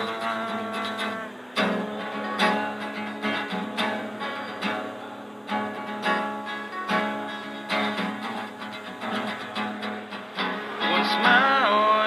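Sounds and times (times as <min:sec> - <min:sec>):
acoustic guitar riff: 0:00.0 - 0:12.0
person singing: 0:00.0 - 0:12.0.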